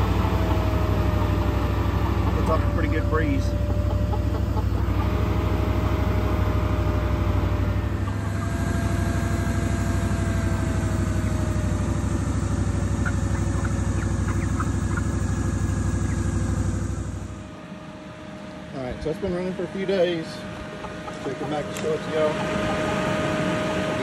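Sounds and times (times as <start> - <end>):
chickens clucking: 0.0 - 8.5, 9.3 - 11.7, 12.4 - 17.0, 20.2 - 24.0
electric fan humming: 0.0 - 24.0.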